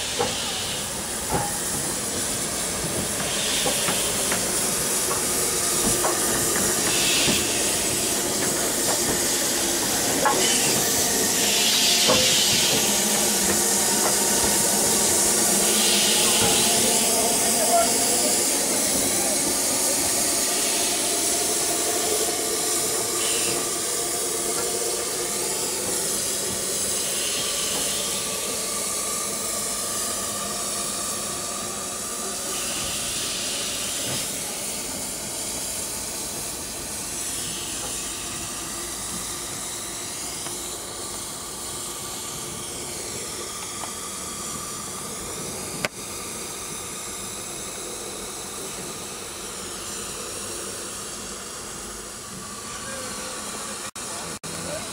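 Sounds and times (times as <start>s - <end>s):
steam locomotive hissing: 0.0s - 54.9s.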